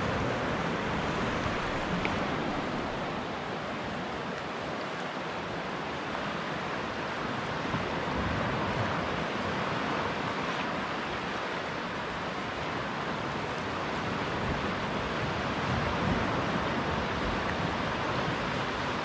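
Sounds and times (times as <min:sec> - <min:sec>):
surf waves washing on beach: 0:00.0 - 0:19.0.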